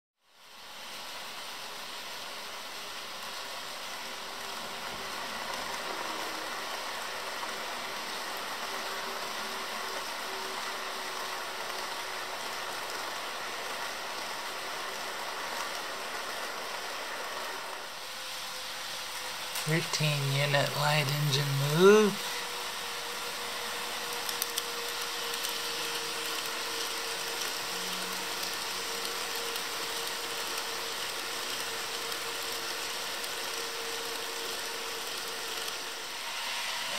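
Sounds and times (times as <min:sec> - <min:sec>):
model train motors whirring: 0:00.4 - 0:19.6, 0:21.4 - 0:36.9.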